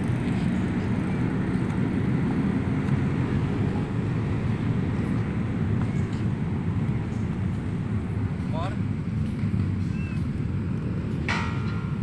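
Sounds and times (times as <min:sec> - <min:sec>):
city background rumble: 0:00.0 - 0:12.0.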